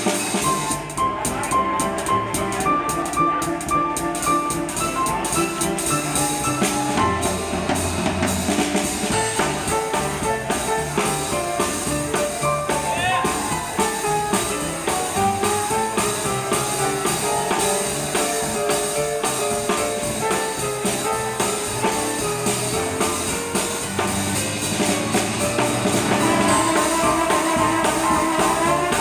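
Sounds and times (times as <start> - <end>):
drum kit with cymbals: 0.0 - 29.0
upright bass walking: 0.2 - 29.0.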